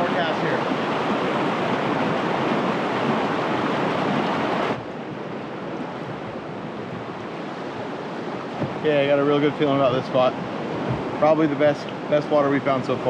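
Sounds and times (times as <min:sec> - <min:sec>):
water rushing over rapids: 0:00.0 - 0:13.0.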